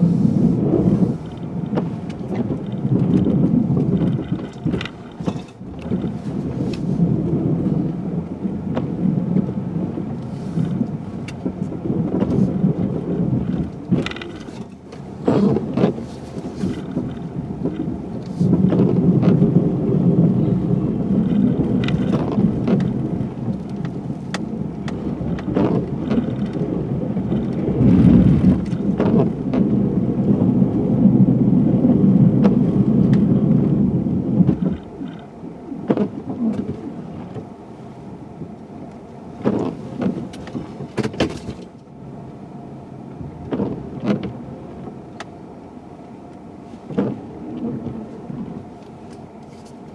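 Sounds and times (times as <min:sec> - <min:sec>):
pickup truck rumble: 0:00.0 - 0:49.9.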